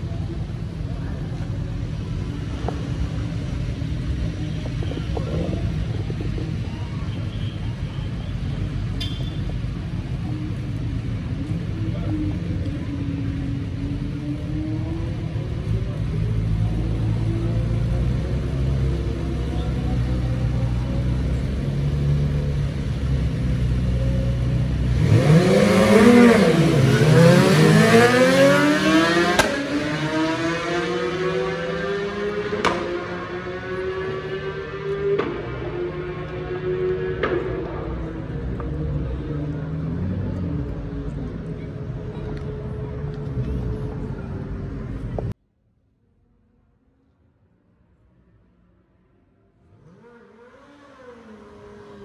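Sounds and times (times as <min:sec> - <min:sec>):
motorcycles accelerating: 0:00.0 - 0:45.4, 0:49.6 - 0:52.0.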